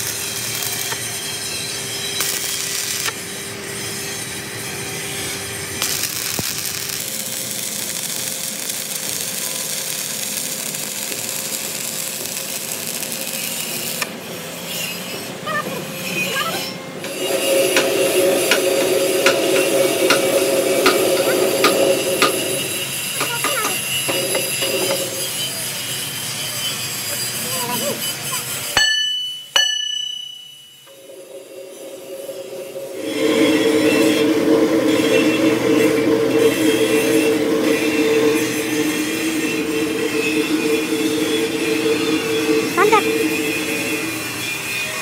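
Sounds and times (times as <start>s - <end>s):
lathe tool scraping metal: 0.1s - 45.0s.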